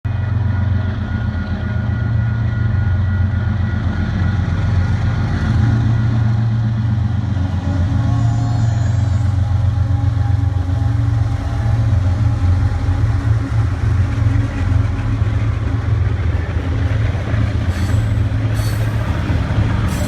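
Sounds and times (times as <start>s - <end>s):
diesel locomotive engine rumble: 0.0s - 20.0s.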